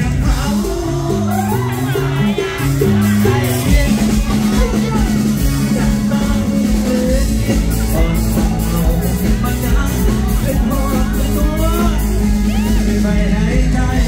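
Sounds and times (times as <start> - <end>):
bass: 0.0 - 14.0
drum kit beat: 0.0 - 14.0
man singing: 0.0 - 14.0.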